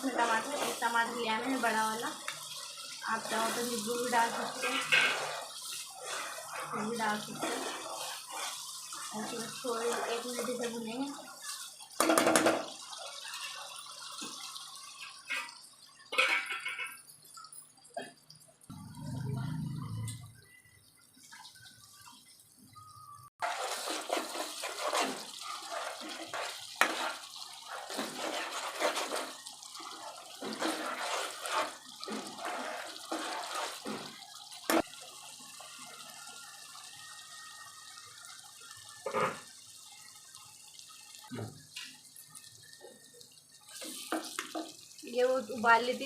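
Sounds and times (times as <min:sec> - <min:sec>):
water splashing and dripping: 0:00.0 - 0:46.0.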